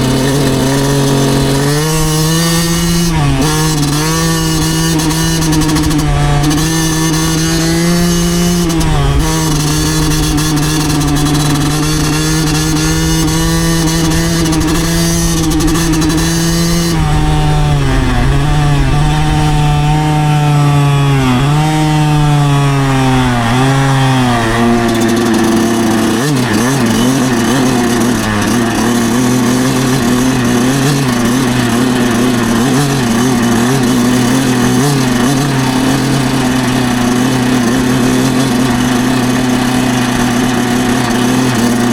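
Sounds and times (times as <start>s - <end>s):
two-stroke motorcycle engine revving: 0.0s - 41.9s.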